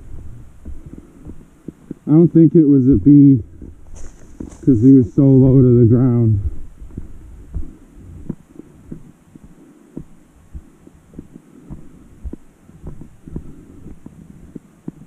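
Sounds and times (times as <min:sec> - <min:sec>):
footsteps on dirt trail: 0:00.0 - 0:15.0.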